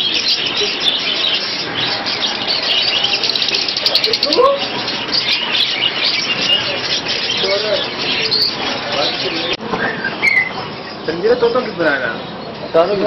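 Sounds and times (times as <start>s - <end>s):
gliding squawks: 0.0s - 12.6s
budgerigars twittering: 0.0s - 13.0s.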